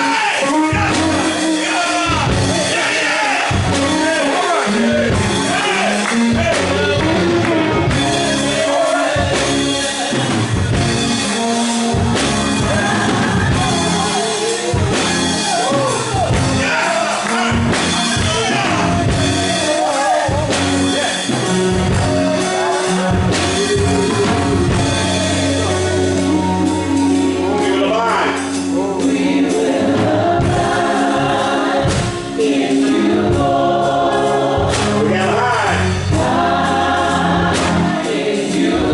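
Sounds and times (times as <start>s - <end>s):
band with drums and bass: 0.0s - 38.9s
voices singing gospel music: 0.0s - 38.9s.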